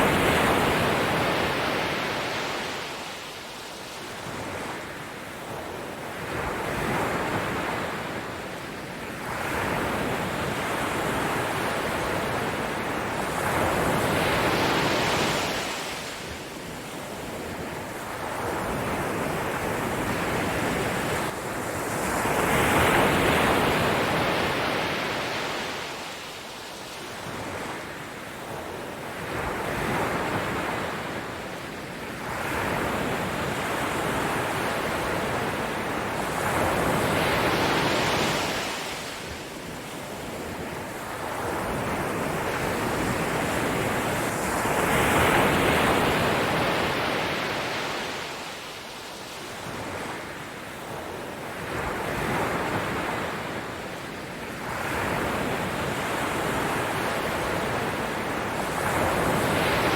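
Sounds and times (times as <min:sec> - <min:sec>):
waves washing on shore: 0:00.0 - 0:59.9.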